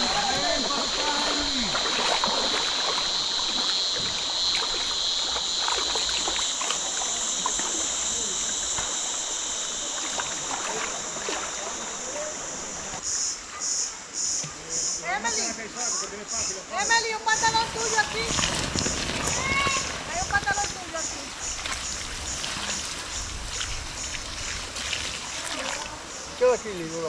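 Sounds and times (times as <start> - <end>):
river water running: 0.0 - 27.0.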